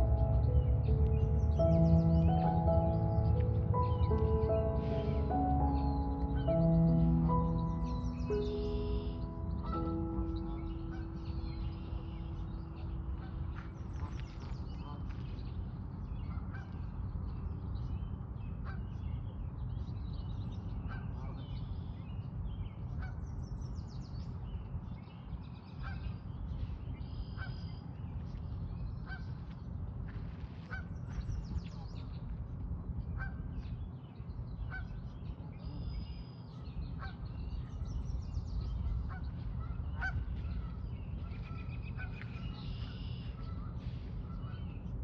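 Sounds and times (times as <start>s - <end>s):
low steady rumble: 0.0s - 45.0s.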